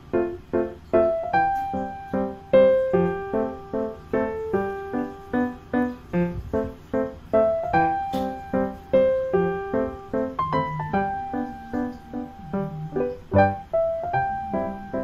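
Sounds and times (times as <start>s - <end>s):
light keyboard tune: 0.0s - 15.0s.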